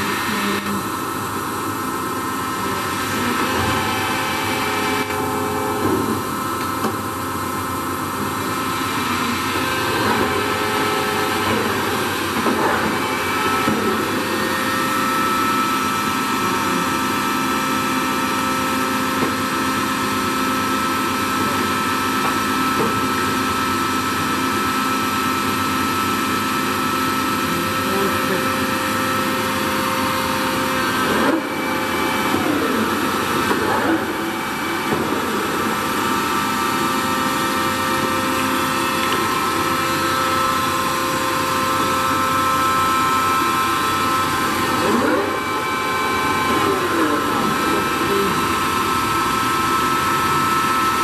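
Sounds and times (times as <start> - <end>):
lathe gearing hum and whine: 0.0 - 51.0.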